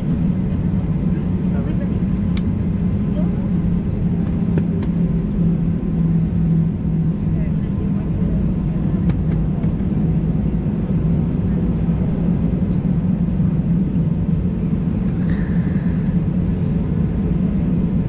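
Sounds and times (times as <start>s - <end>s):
aircraft engines humming: 0.0s - 18.0s.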